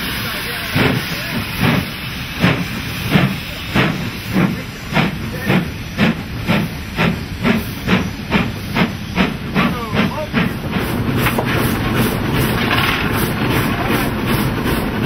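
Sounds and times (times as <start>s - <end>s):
steam hissing: 0.0s - 15.0s
steam locomotive exhaust chuffs: 0.0s - 15.0s.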